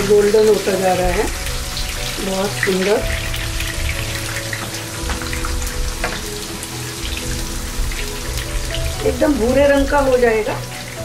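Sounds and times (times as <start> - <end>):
nuts sizzling in hot ghee: 0.0 - 11.0.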